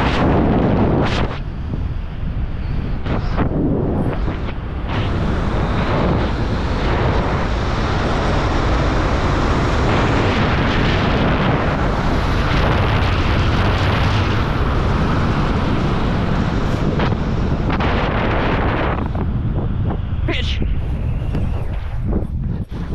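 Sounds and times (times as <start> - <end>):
wind rushing across microphone: 0.0 - 22.9.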